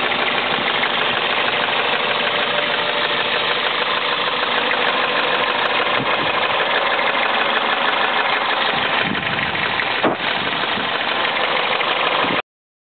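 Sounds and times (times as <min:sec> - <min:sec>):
car engine running: 0:00.0 - 0:12.4
rapid engine ticking: 0:00.0 - 0:12.4
sharp engine knock: 0:00.0 - 0:12.4.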